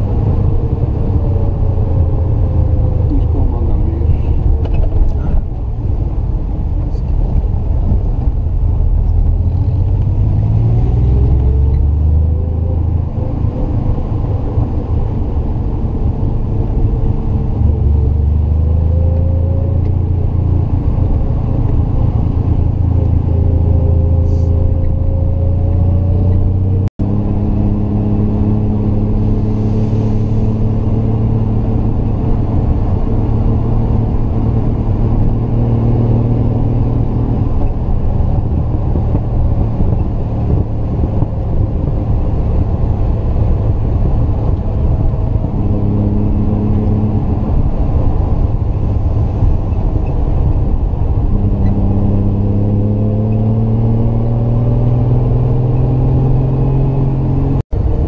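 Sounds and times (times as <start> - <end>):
car engine under load: 0.0 - 58.0.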